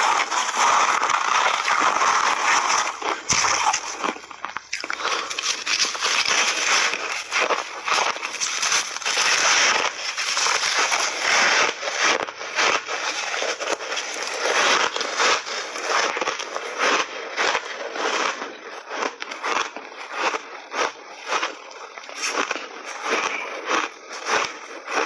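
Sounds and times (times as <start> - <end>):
chewing crunchy ice: 0.0 - 25.0.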